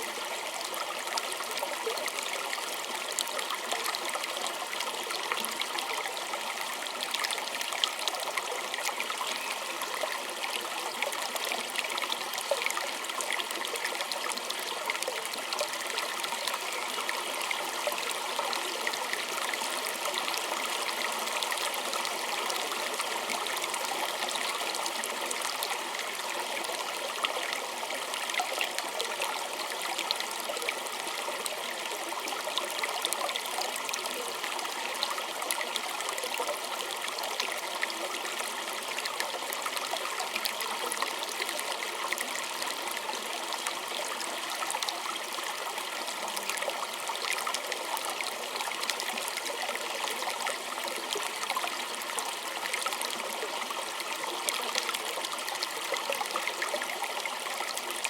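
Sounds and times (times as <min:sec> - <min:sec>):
creek trickling over stones: 0:00.0 - 0:58.0.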